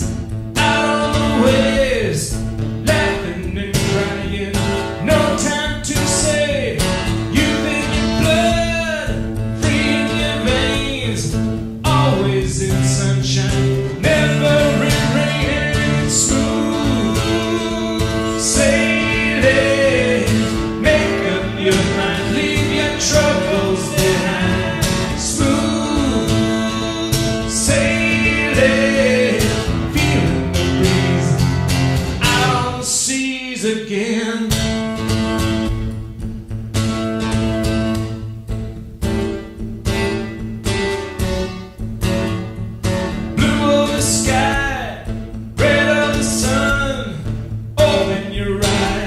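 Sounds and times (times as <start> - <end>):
country song with guitar: 0.0 - 49.0.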